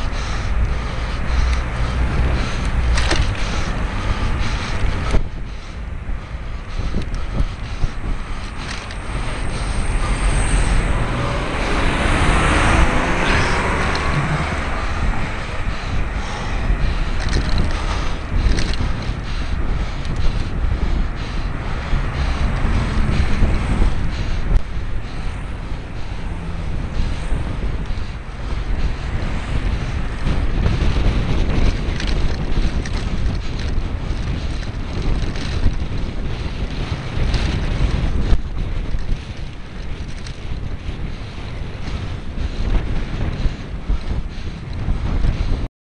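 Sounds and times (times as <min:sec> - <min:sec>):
road noise: 0:00.0 - 0:45.7
wind rushing over microphone: 0:00.0 - 0:45.7.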